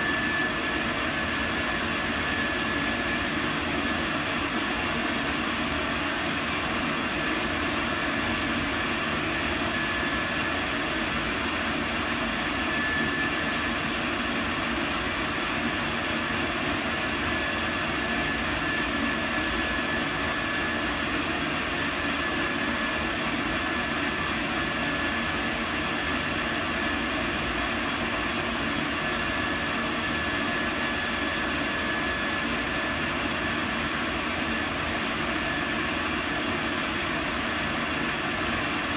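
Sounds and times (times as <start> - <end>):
faint high whine: 0.0 - 38.9.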